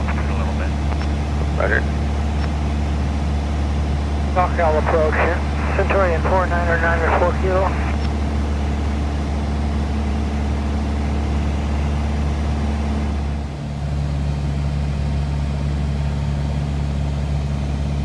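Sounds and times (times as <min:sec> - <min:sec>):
light airplane engine droning: 0:00.0 - 0:17.3.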